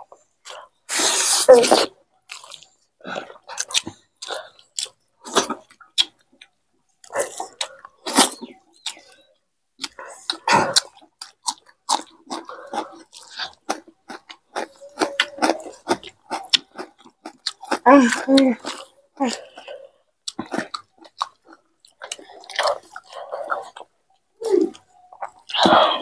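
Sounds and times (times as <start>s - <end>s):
people chewing and lip smacking: 0.0s - 26.0s.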